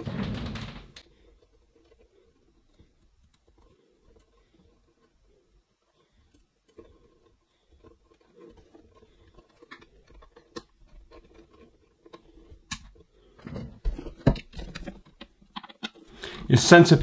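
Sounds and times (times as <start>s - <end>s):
hands handling plastic parts: 0.0s - 16.6s.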